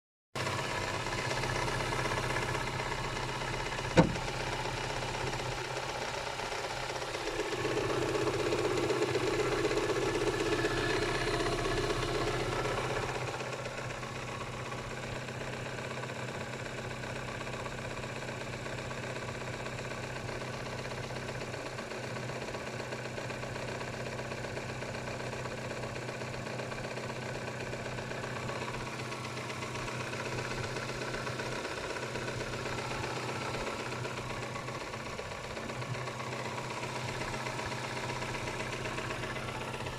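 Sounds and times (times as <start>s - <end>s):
car engine running with knock: 0.4s - 39.9s.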